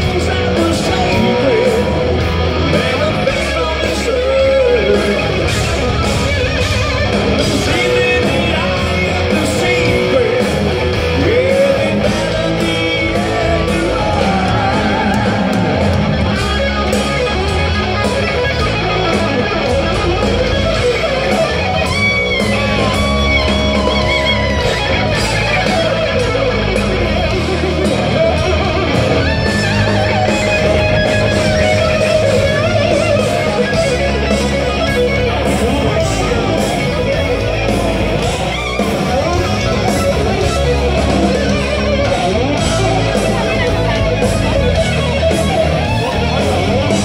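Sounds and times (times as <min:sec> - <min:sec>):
electric guitar lead lines: 0:00.0 - 0:47.0
heavy metal band playing live: 0:00.0 - 0:47.0.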